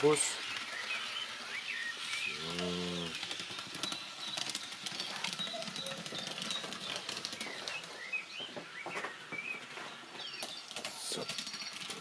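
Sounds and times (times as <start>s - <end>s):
rapid light clicking of model vehicles: 0.0s - 8.1s, 8.7s - 12.0s
recorded bird chirps: 0.0s - 12.0s.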